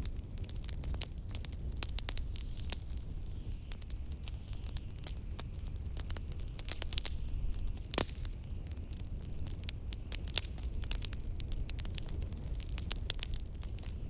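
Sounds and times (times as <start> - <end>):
low rumble of blizzard wind: 0.0 - 14.0
wood fire crackling and popping: 0.0 - 14.0.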